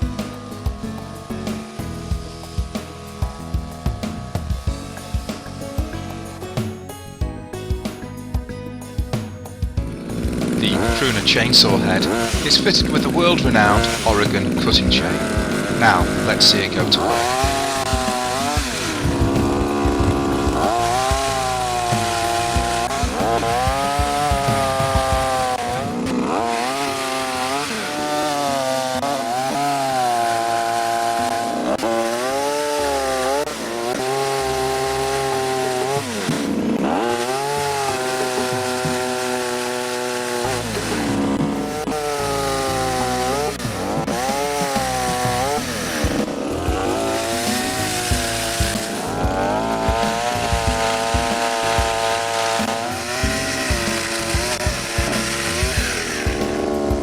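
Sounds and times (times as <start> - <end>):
pruner chainsaw engine revving: 0.0 - 57.0.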